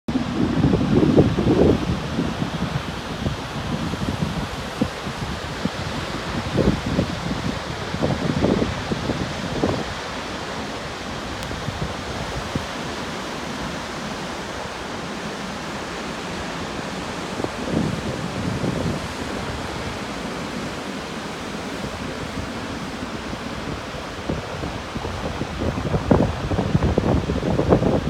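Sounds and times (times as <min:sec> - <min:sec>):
wind buffeting microphone: 0:00.1 - 0:28.0.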